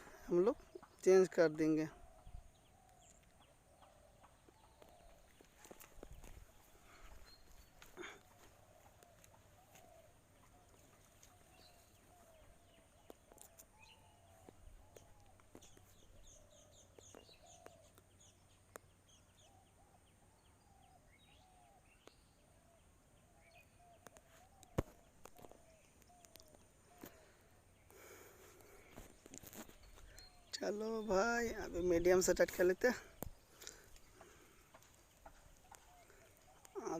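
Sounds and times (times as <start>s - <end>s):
faint birds calling: 0.0s - 36.9s.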